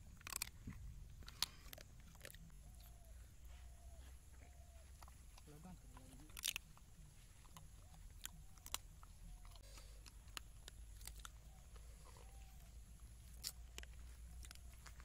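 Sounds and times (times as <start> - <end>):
dog chewing and crunching: 0.0 - 15.0.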